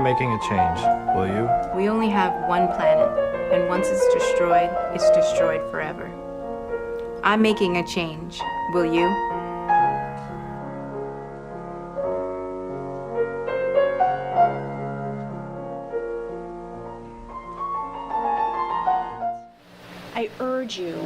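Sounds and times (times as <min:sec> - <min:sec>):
slow piano music: 0:00.0 - 0:20.2.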